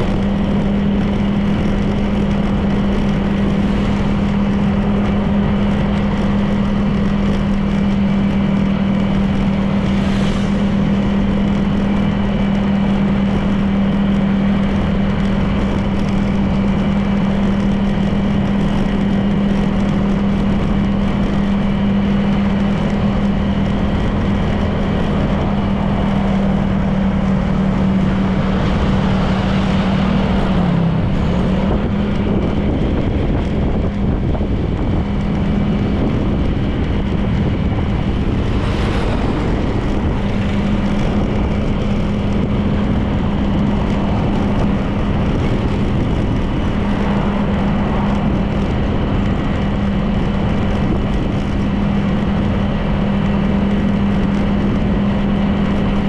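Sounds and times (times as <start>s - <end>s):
scooter engine humming: 0.0s - 56.0s
wind rushing past microphone: 0.0s - 56.0s.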